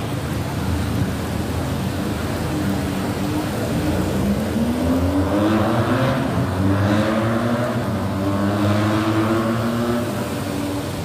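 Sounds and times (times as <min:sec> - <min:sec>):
heavy rain hiss: 0:00.0 - 0:11.0
motorbike engines idling and revving: 0:00.0 - 0:11.0.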